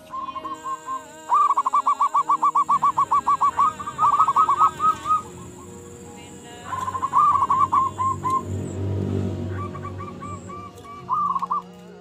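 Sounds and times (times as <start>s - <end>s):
doves cooing: 0.0s - 12.0s
faint high whine: 0.0s - 12.0s.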